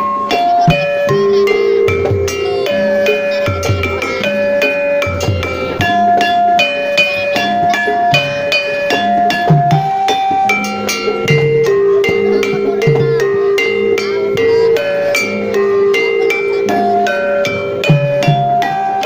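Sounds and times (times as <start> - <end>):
gamelan keyed and gong instruments: 0.0 - 19.0.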